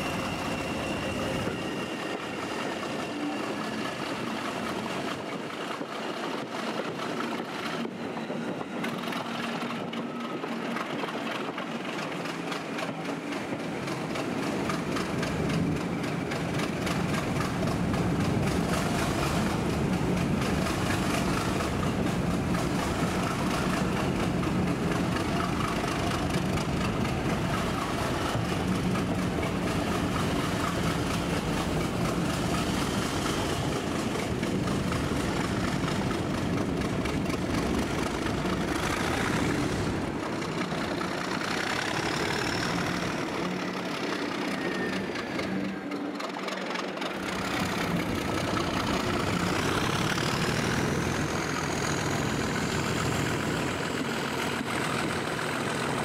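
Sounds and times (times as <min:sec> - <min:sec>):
diesel locomotive engine running: 0:00.0 - 0:56.0
train wheels on rails: 0:00.0 - 0:56.0.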